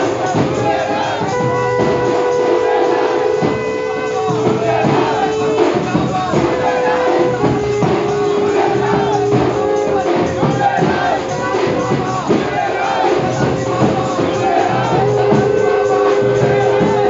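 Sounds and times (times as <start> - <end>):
crowd voices and shouts: 0.0 - 17.0
drum strokes: 0.0 - 17.0
festive music with held notes: 0.0 - 17.0.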